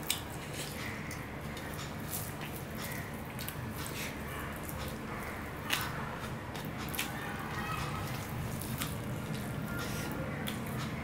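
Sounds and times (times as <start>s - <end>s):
chewing: 0.0s - 11.0s
low background hum: 0.0s - 11.0s.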